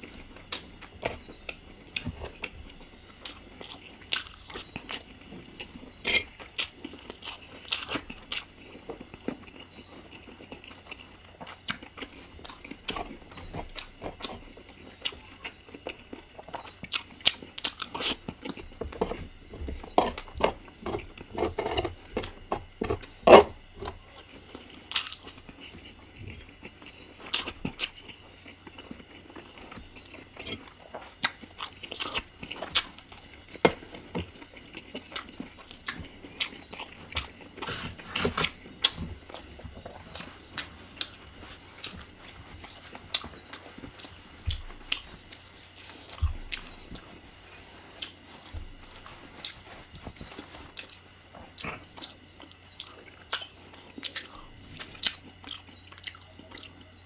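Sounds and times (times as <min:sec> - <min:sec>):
wet chewing and biting: 0:00.1 - 0:56.9.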